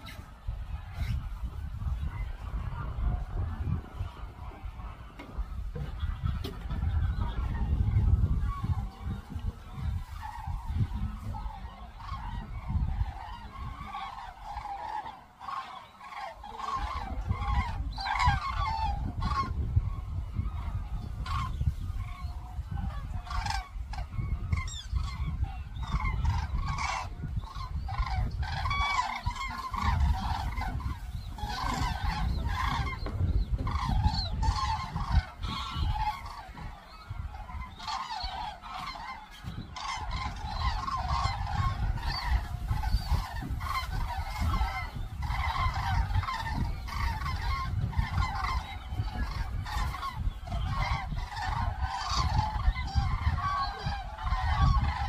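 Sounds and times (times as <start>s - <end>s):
cranes trumpeting calls: 0.0s - 55.0s.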